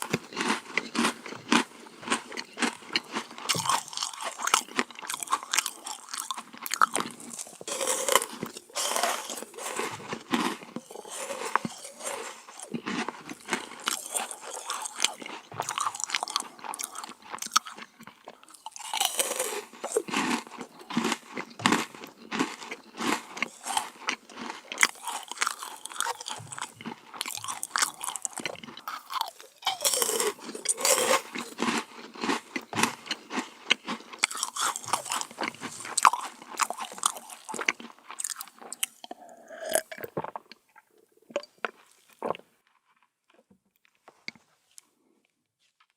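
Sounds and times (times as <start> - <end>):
crunching crisp cookies: 0.0 - 44.9.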